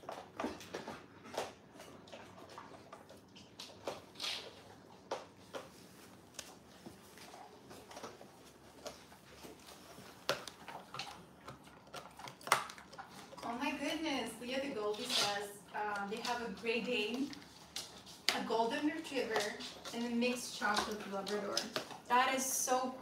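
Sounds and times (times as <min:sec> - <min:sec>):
dogs chewing: 0:00.0 - 0:23.0.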